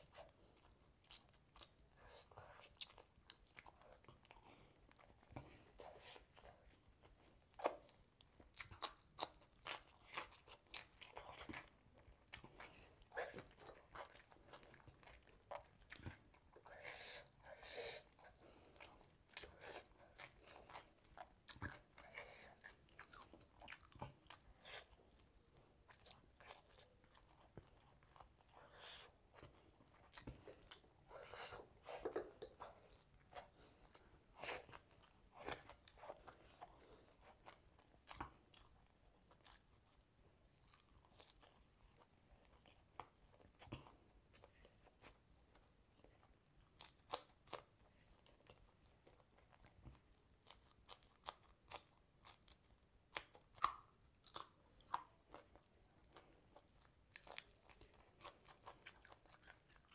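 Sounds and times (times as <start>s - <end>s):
biting and chewing chicken: 0.0s - 59.9s.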